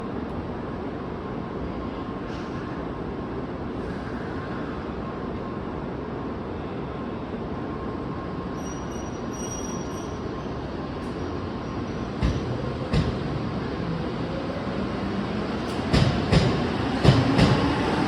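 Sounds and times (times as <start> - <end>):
train rail noise rumble: 0.0 - 18.0.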